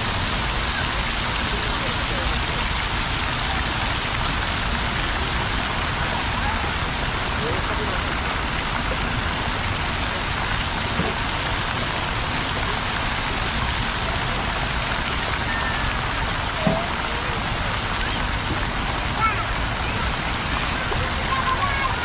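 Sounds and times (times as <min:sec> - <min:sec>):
water splashing in fountains: 0:00.0 - 0:22.0.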